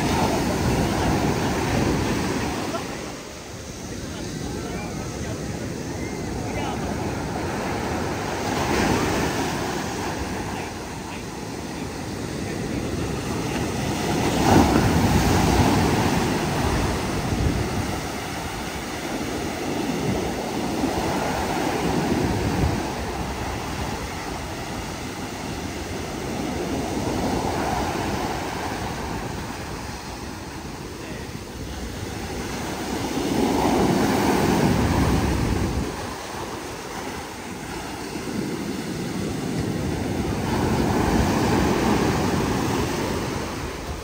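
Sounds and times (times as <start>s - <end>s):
waves breaking on a beach: 0.0s - 44.0s.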